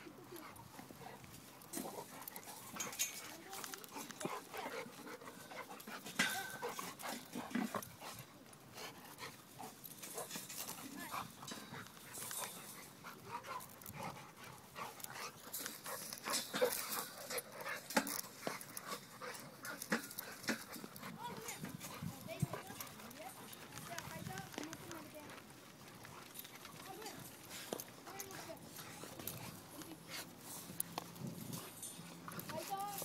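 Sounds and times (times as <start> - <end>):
dogs panting: 0.0 - 33.0
paws scraping and knocking: 0.3 - 33.0.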